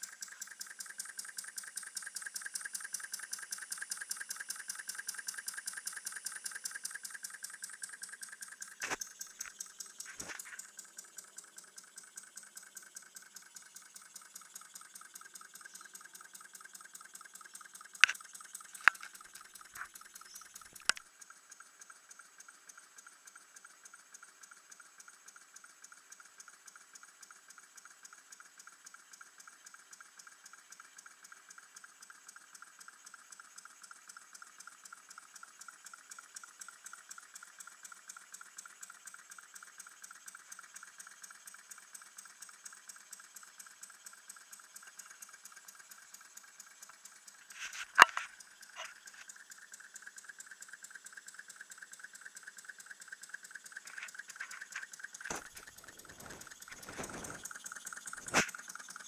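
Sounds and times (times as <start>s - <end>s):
model engine rapid ticking: 0.0s - 59.0s.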